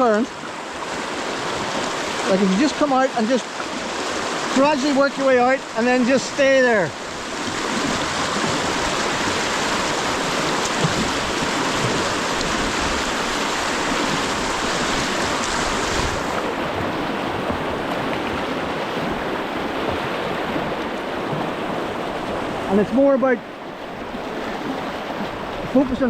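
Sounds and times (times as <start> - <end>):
river rushing through rapids: 0.0 - 26.0.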